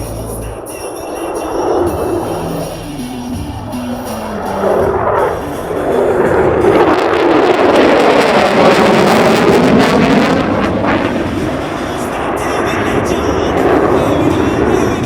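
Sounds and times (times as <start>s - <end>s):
jet passing roar: 0.0s - 15.0s.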